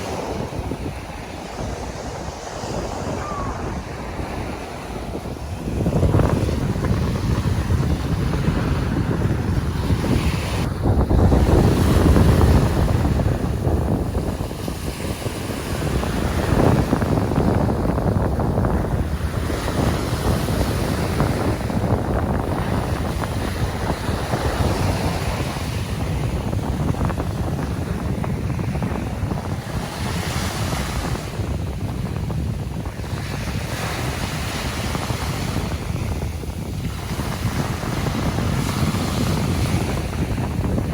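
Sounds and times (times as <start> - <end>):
ocean surf on beach: 0.0 - 40.9
wind buffeting microphone: 0.0 - 40.9.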